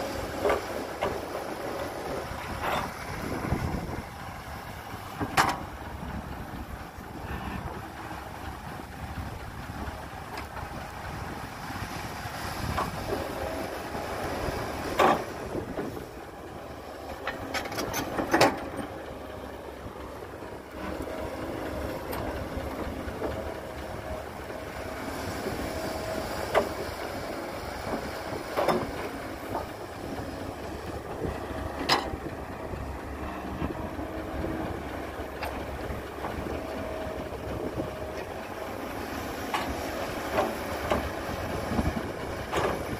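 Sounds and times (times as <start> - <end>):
excavator engine and hydraulic drone: 0.0 - 42.9.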